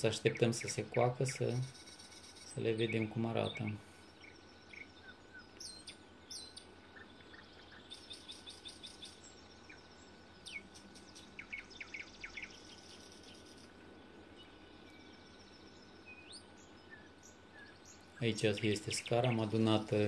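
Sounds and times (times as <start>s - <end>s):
outdoor background noise: 0.0s - 20.0s
songbirds chirping and trilling: 0.0s - 20.0s.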